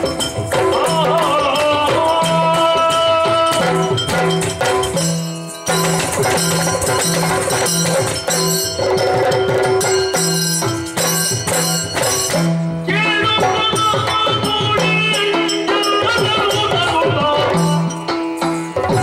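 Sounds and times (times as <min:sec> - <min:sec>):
drums playing fast pattern: 0:00.0 - 0:19.0.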